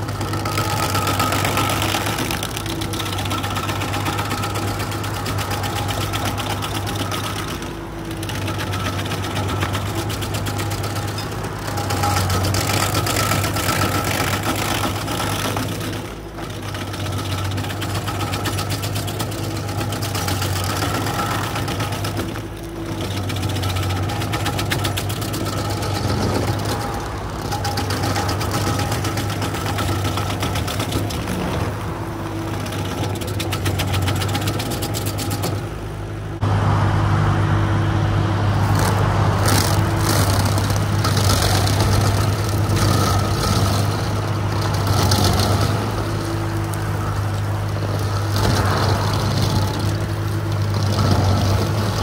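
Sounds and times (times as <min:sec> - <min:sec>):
stump grinder engine under load: 0:00.0 - 0:52.0.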